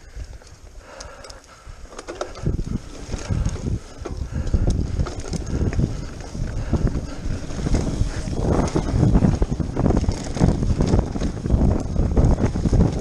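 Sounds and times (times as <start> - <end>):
bike rattling over bumps: 0.0 - 13.0
wind rumbling on microphone: 0.0 - 13.0.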